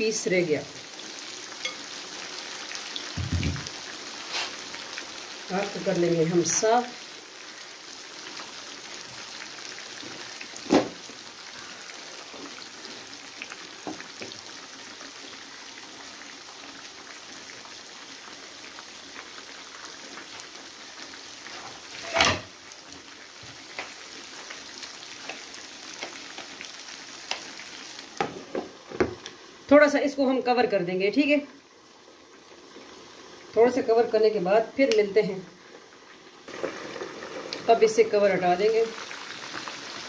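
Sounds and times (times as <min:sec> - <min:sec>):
chicken frying in hot oil: 0:00.0 - 0:40.0.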